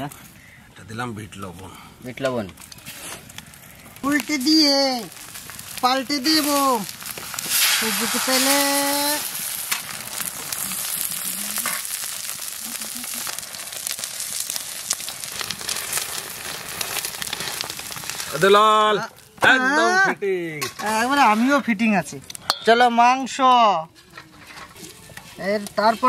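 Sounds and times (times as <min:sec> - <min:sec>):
flatbread sizzling on griddle: 0:00.0 - 0:26.0.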